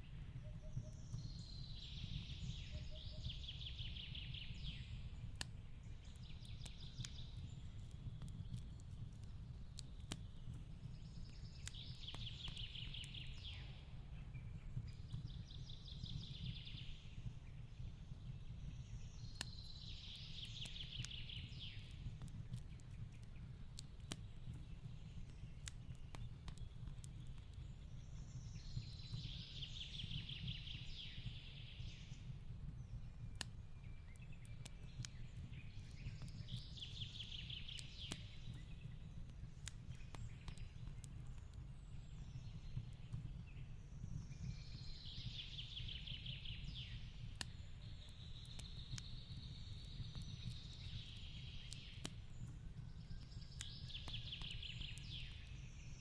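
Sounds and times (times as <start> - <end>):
fireplace crackling: 5.0 - 16.2, 16.8 - 29.5, 32.2 - 45.3, 46.2 - 56.0.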